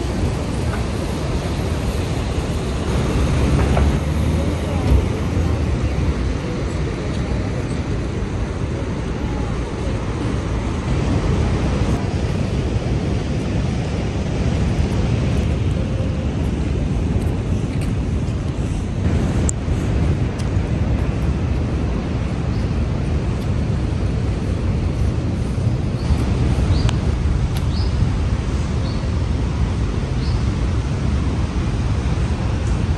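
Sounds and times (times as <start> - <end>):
low outdoor roar: 0.0 - 32.9.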